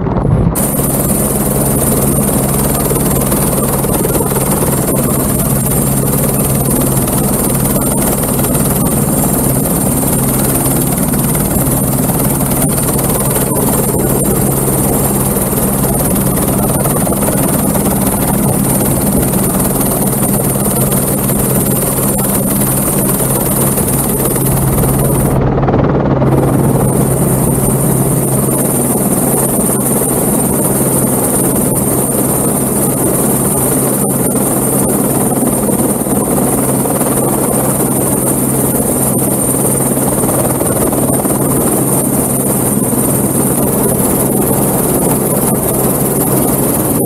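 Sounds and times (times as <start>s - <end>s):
helicopter engine and rotor drone: 0.0s - 47.0s
high turbine whine: 0.0s - 47.0s.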